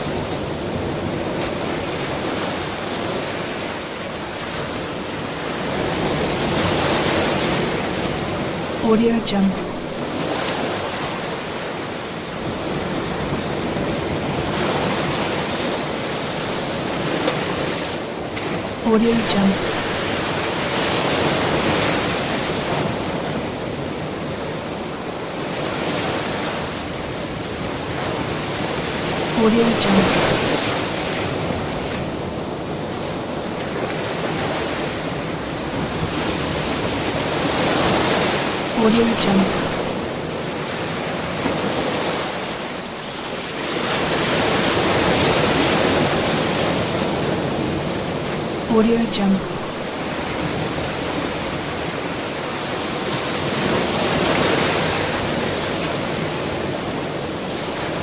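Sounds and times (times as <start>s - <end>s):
waves breaking on a shore: 0.0s - 58.0s.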